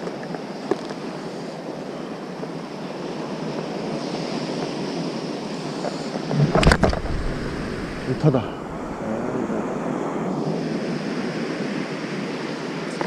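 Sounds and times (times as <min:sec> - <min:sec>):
small waves washing on sand: 0:02.3 - 0:13.0
wind on the microphone: 0:02.4 - 0:12.8.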